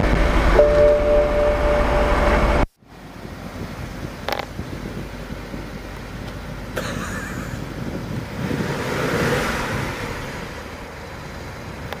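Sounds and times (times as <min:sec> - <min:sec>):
car engine starting: 0:00.0 - 0:12.0.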